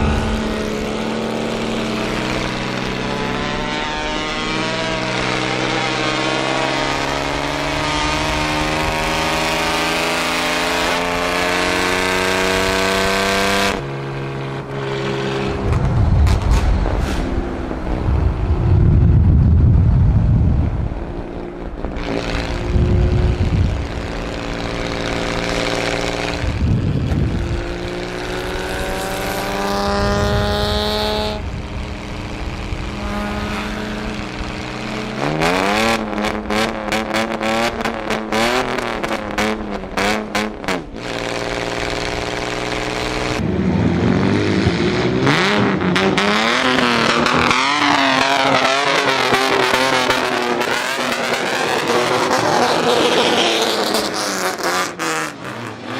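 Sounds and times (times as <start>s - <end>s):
exhaust cracks: 0.0s - 9.7s, 14.5s - 55.1s
vehicle engines revving: 0.0s - 55.9s.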